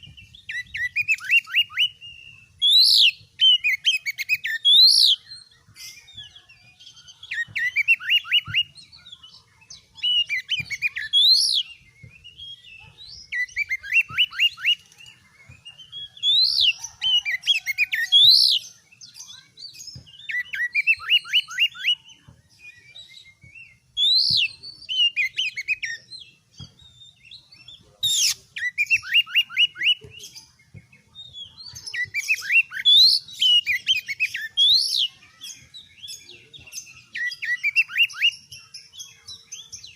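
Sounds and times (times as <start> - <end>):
songbird singing whistled phrases: 0.0 - 39.9.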